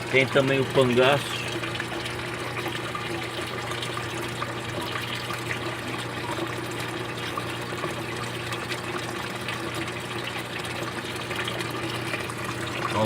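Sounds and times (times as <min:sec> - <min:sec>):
water trickling into tank: 0:00.0 - 0:13.0.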